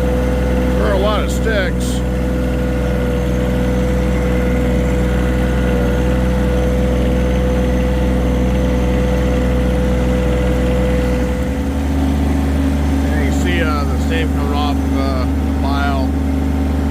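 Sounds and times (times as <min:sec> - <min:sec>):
constant whine: 0:00.0 - 0:16.9
tractor diesel engine running: 0:00.0 - 0:16.9.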